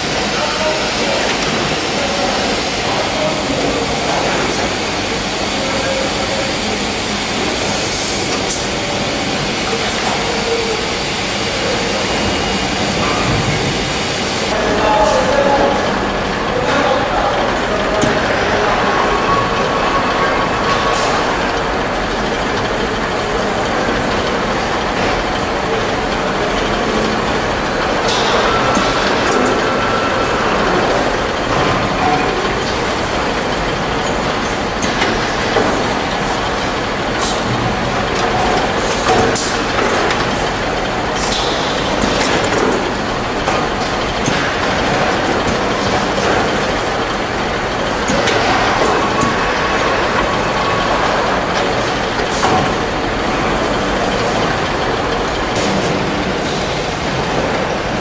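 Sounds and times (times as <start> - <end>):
machinery clanks: 0.0 - 58.0
machinery running: 0.0 - 58.0.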